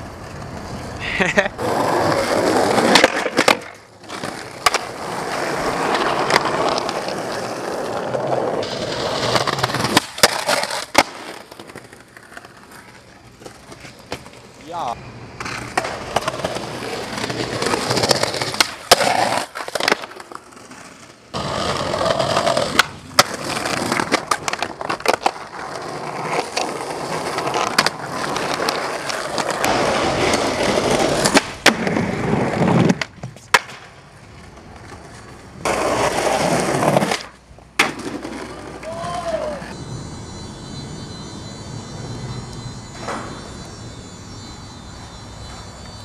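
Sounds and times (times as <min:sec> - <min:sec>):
skateboard clacking: 0:00.0 - 0:14.6, 0:15.4 - 0:39.8
skateboard wheels rolling on concrete: 0:00.0 - 0:46.0.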